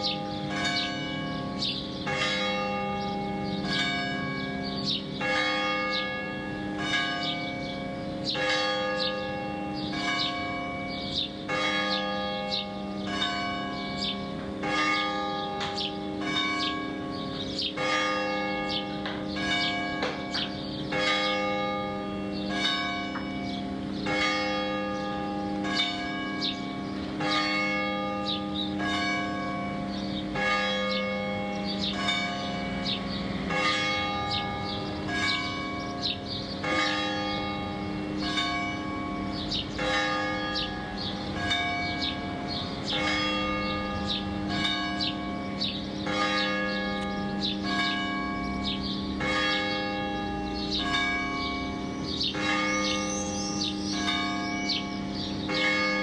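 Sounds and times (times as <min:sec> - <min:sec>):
church bells tolling: 0:00.0 - 0:56.0.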